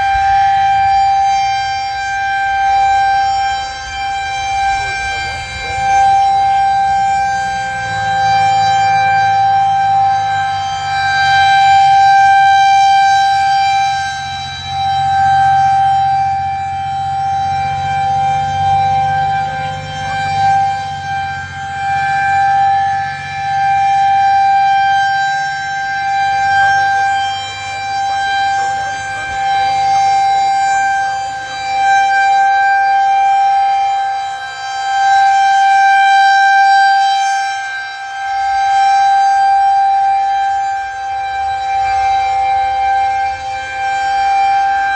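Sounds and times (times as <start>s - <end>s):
rotating warning siren steady tone: 0.0s - 44.9s.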